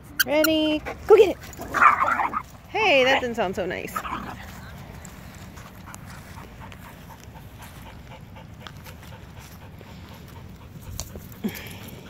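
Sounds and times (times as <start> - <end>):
dog panting: 0.2 - 12.0.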